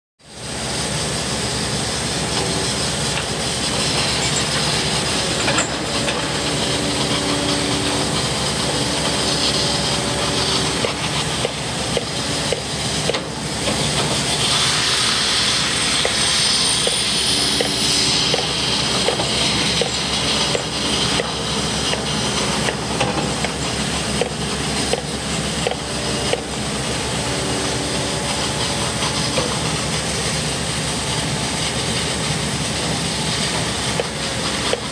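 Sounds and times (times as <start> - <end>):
excavator diesel engine running: 0.2 - 34.9
hydraulic drone: 0.3 - 34.9
water splashing and hissing: 6.2 - 34.7.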